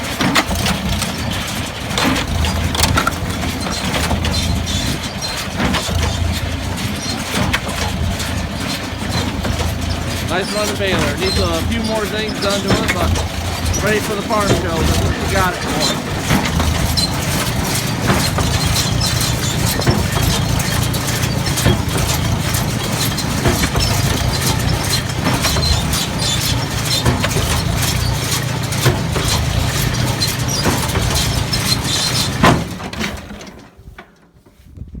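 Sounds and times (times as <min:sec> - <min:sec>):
hay baler clattering: 0:00.0 - 0:34.2.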